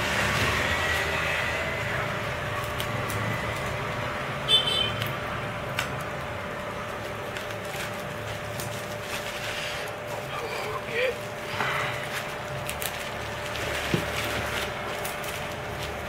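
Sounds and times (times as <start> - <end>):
bubble wrap crinkling: 0.1 - 16.0.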